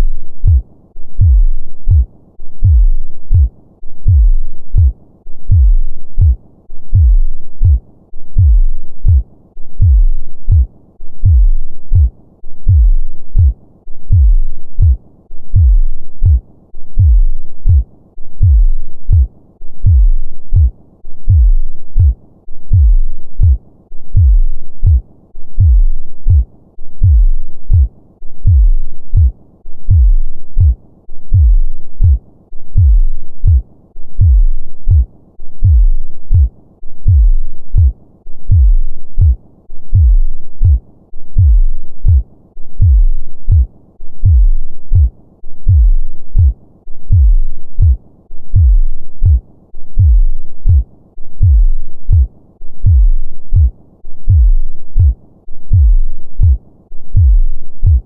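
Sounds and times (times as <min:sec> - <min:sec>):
human heartbeat: 0:00.0 - 0:00.6, 0:01.2 - 0:33.6, 0:34.2 - 0:58.0.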